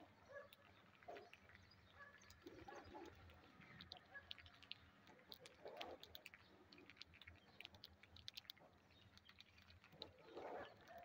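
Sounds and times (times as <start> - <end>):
parakeets pecking and cracking grain: 0.0 - 11.0.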